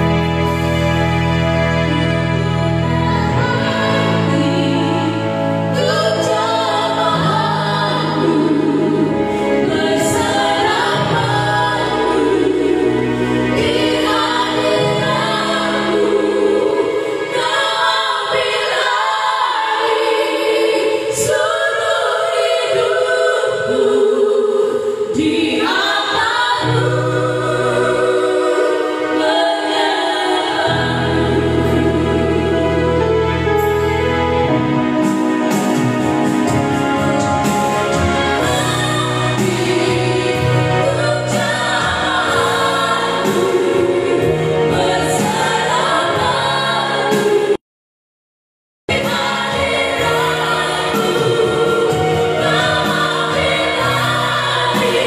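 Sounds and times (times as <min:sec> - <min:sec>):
women singing in harmony: 0:00.0 - 0:33.6, 0:37.5 - 0:47.6, 0:48.9 - 0:55.0
keyboard accompaniment: 0:00.0 - 0:47.6, 0:48.9 - 0:55.0.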